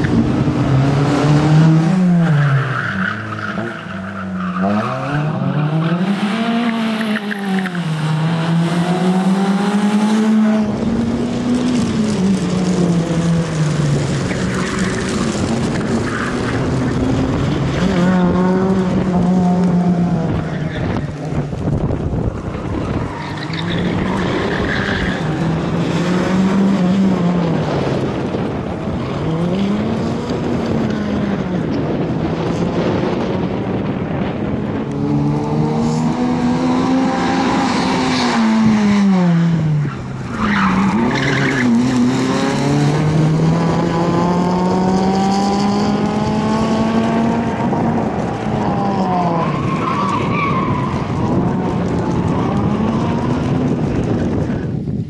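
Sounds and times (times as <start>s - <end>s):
car engine revving: 0.0s - 54.4s.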